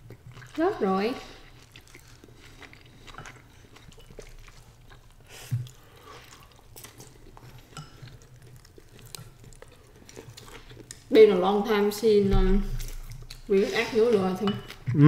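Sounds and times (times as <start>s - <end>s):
chewing noodles: 0.0s - 15.0s.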